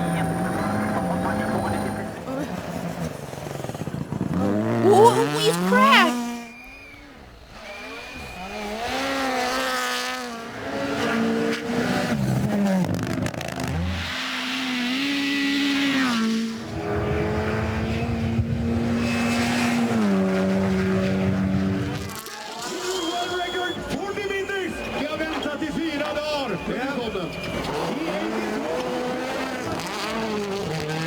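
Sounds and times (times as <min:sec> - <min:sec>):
rally car engine revving: 0:00.0 - 0:06.8, 0:07.5 - 0:31.0.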